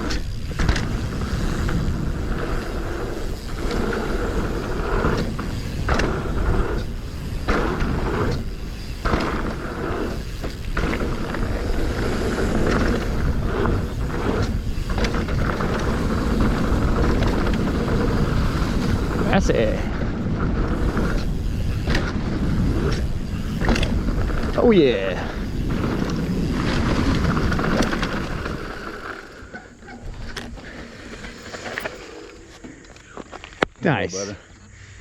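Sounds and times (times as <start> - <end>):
bike knocks and rattles: 0.0 - 32.0
rushing noise of bike ride: 0.0 - 35.0.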